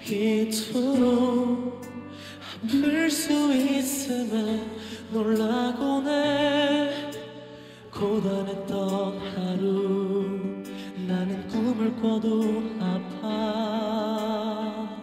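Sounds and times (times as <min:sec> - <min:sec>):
person singing a ballad with vibrato: 0:00.0 - 0:15.0
soft instrumental accompaniment: 0:00.0 - 0:15.0.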